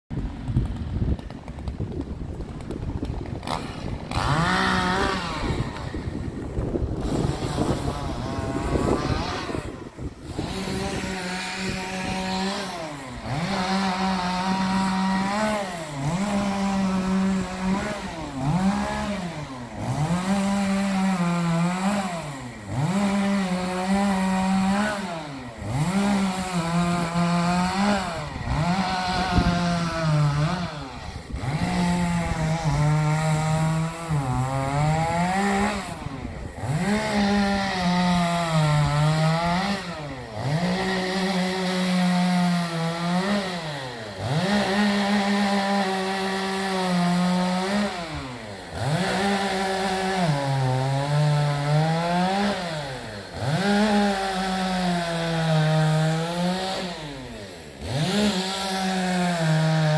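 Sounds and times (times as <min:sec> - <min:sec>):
chainsaw revving and cutting: 0:00.2 - 0:59.9.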